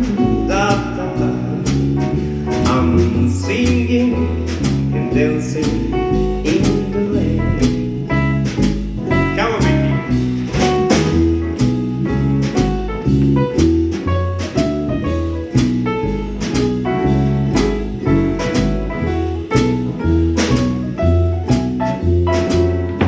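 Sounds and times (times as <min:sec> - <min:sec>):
bass line: 0:00.0 - 0:23.0
drum strikes: 0:00.0 - 0:23.0
jazz band playing: 0:00.0 - 0:23.0.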